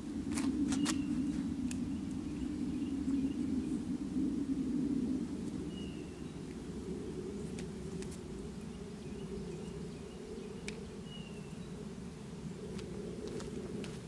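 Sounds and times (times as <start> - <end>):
low outdoor drone: 0.0 - 14.0.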